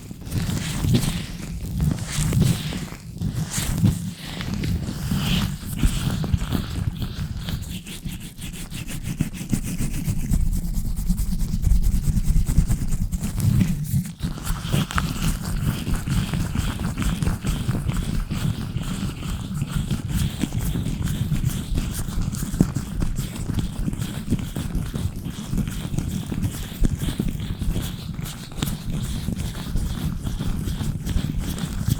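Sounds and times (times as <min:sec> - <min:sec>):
gloved hands rubbing microphone: 0:00.0 - 0:31.9.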